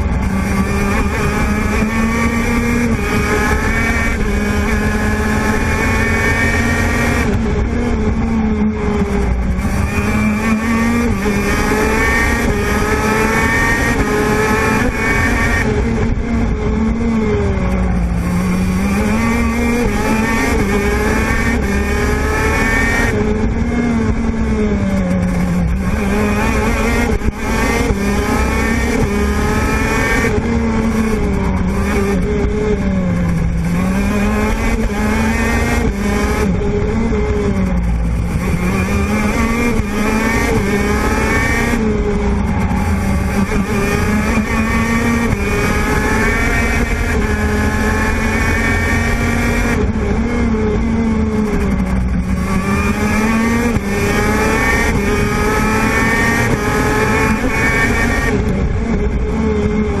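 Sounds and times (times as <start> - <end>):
kart engine buzzing: 0.0 - 60.0.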